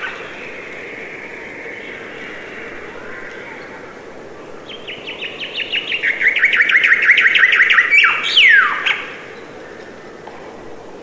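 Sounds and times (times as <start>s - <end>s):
songbird singing: 0.0s - 10.4s
background hiss: 0.0s - 11.0s.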